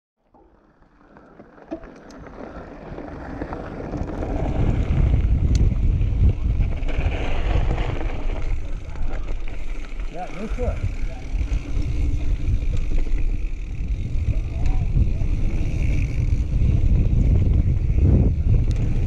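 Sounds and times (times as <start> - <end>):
bike tyres rolling on gravel: 0.4 - 19.0
wind buffeting microphone: 3.3 - 19.0.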